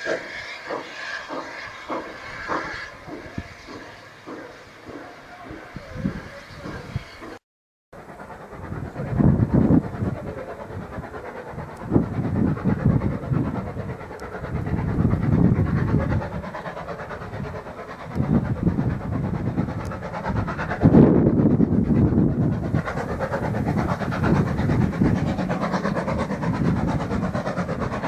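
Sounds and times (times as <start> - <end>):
steam locomotive chuffing: 0.0 - 7.4, 8.0 - 28.0.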